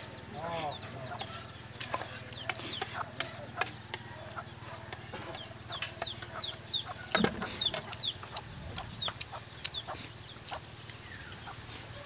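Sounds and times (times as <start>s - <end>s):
chickens peeping and clucking: 0.0s - 12.0s
steady high hiss: 0.0s - 12.0s.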